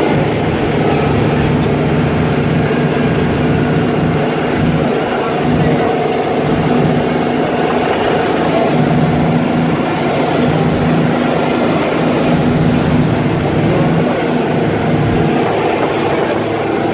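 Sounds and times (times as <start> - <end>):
ferry engines droning: 0.0 - 16.9.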